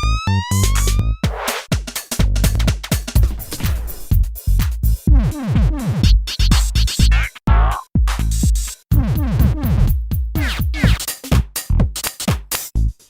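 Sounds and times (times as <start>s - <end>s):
electronic music with drum-machine beat: 0.1s - 12.8s.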